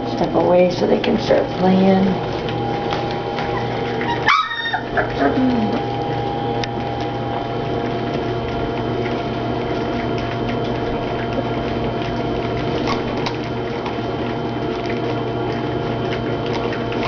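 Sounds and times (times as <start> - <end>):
paws scratching and tapping: 0.0 - 17.0
steady hum: 0.0 - 17.0
puppies playing: 0.2 - 17.0.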